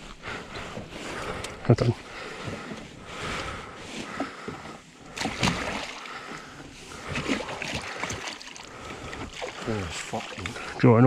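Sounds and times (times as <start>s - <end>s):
water splashing and sloshing: 0.7s - 11.0s.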